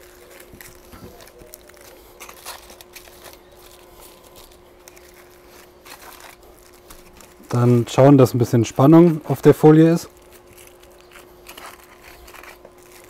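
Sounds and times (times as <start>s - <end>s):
aluminium foil crinkling: 0.0s - 13.0s
faint steady hum: 0.0s - 13.0s.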